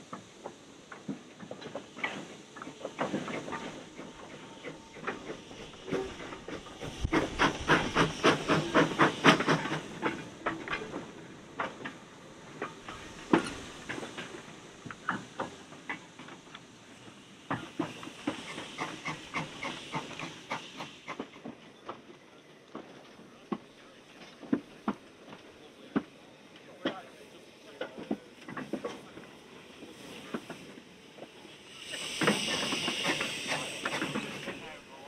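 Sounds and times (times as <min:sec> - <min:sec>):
steam hissing: 0:00.0 - 0:35.0
steam locomotive moving slowly: 0:00.0 - 0:35.0.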